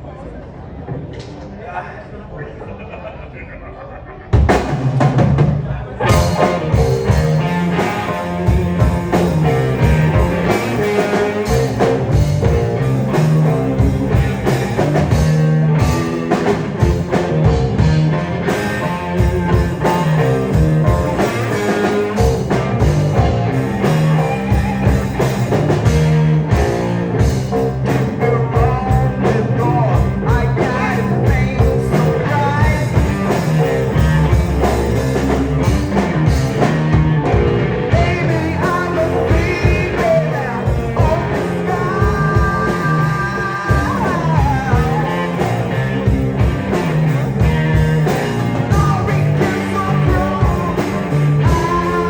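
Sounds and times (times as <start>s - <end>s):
drums beating: 4.3s - 52.0s
electric guitar: 4.3s - 52.0s
rock band playing live: 4.3s - 52.0s.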